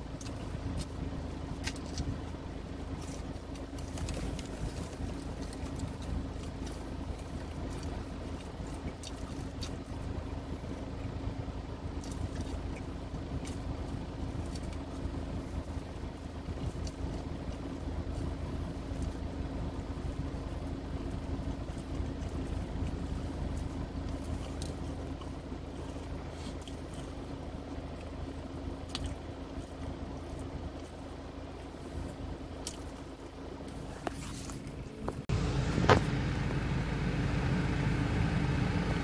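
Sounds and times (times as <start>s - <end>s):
wet chewing and mouth clicks: 0.0s - 11.2s, 11.8s - 35.3s
car engine humming: 0.0s - 39.0s.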